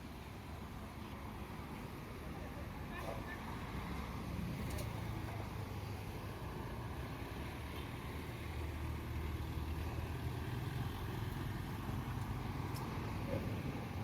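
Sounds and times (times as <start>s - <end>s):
vehicle engine low rumble: 0.0s - 14.0s.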